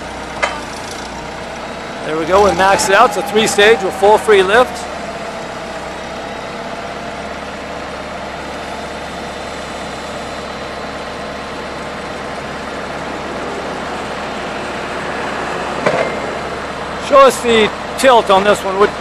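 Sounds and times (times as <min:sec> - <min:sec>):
forklift engine idling: 0:00.0 - 0:19.0.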